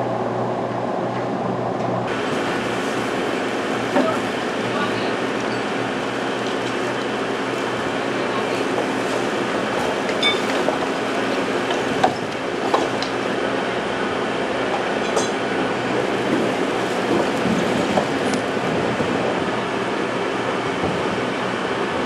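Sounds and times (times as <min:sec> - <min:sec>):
industrial machinery rumble and hiss: 0:00.0 - 0:22.0.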